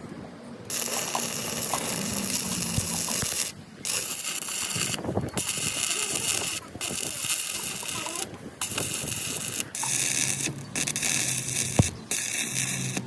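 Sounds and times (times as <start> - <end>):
metalworking tool hissing: 0.7 - 13.0.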